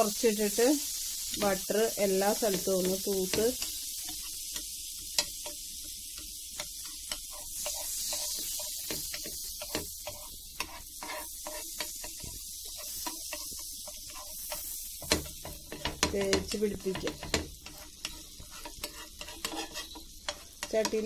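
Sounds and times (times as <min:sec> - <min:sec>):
butter sizzling in a pan: 0:00.0 - 0:21.0
metal spoon scraping a pan: 0:00.9 - 0:21.0.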